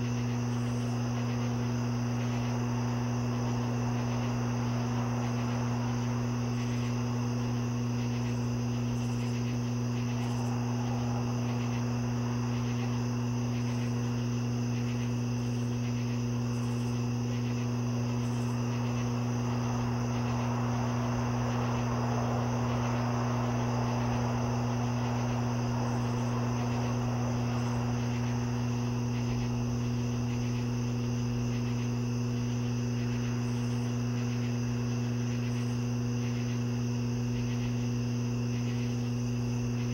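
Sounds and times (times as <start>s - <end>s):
low hum: 0.0s - 39.9s
night insects trilling: 0.0s - 39.9s.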